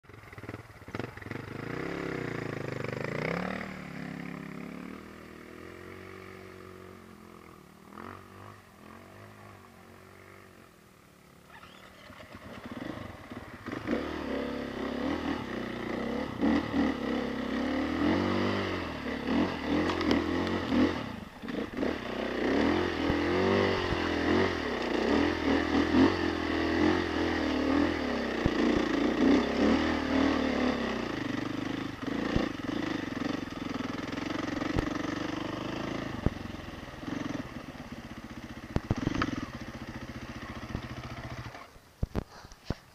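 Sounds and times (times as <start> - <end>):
dirt bike engine revving: 0.1 - 10.6, 11.5 - 41.8.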